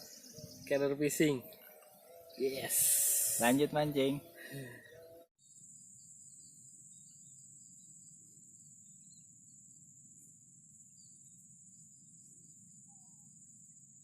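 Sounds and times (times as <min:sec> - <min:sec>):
crickets trilling: 0:00.0 - 0:14.0
faint bird chirps: 0:00.0 - 0:14.0.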